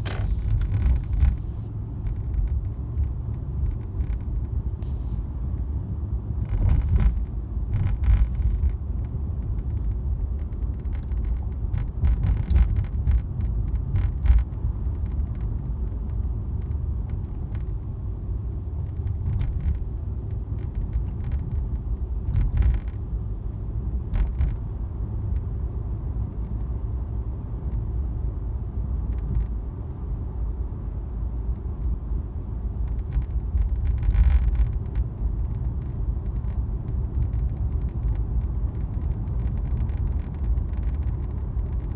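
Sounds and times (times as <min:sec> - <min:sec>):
car road rumble: 0:00.0 - 0:41.9.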